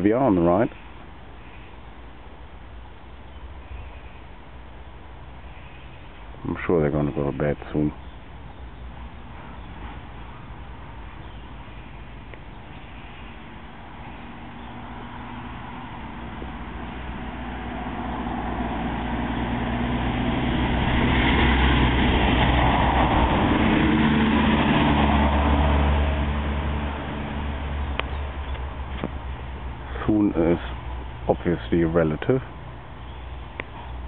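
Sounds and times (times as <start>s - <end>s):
vehicle passing on road: 0.0s - 34.0s.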